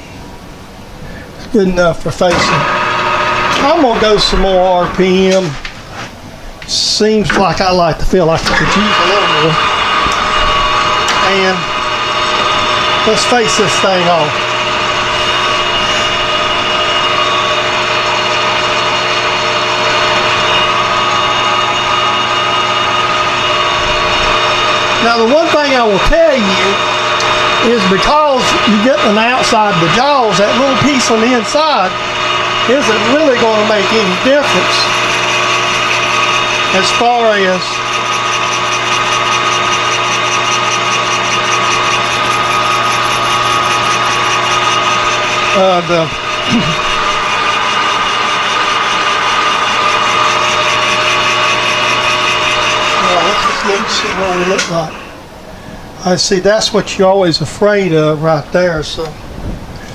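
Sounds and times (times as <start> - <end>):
metal lathe gear whine: 0.0 - 5.7, 6.7 - 56.8
lathe tool cutting metal: 2.1 - 5.7, 7.2 - 55.6.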